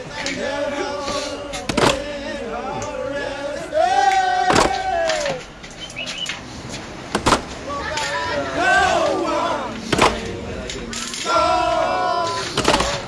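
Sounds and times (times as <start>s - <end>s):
men singing in sing-song: 0.0s - 5.6s, 7.6s - 13.0s.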